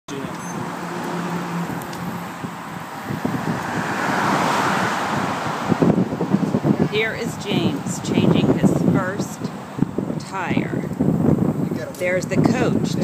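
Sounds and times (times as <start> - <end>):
road vehicle passing: 0.1 - 13.0.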